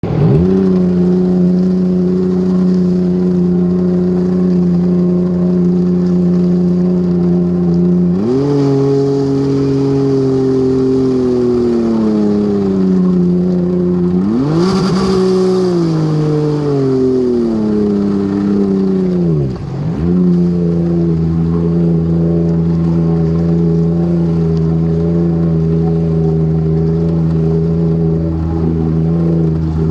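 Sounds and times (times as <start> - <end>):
jet ski engine idling and revving: 0.0 - 29.9.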